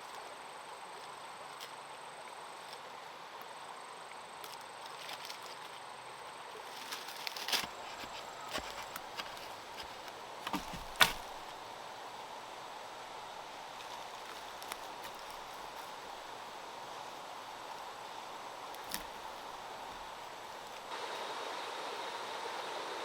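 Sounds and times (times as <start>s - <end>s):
faint outdoor background: 0.0s - 23.0s.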